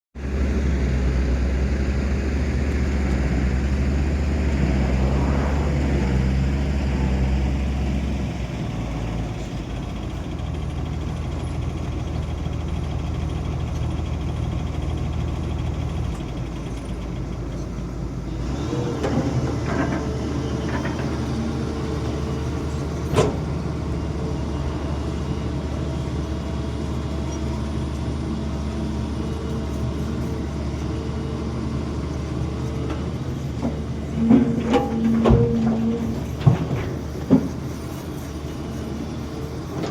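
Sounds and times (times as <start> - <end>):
excavator diesel engine running: 0.2 - 39.9.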